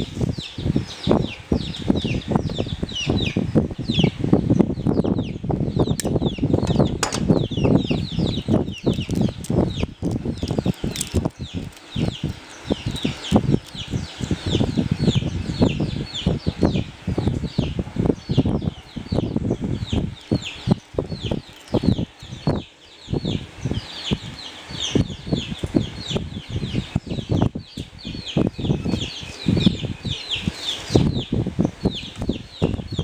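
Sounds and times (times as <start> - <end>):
birds chirping high peeps: 0.0 - 33.0
low fluttering: 0.0 - 33.0.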